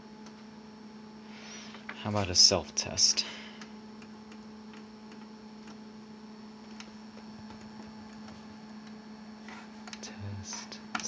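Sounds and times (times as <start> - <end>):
printer humming: 0.0 - 11.0.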